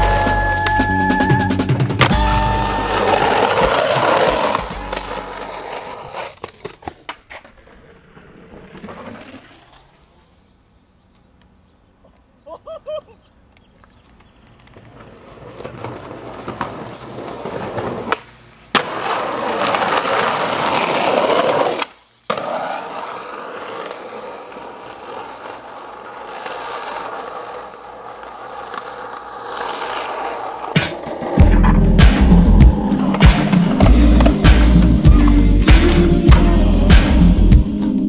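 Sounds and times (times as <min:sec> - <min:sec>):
skateboard wheels rolling on asphalt: 0:00.0 - 0:36.2.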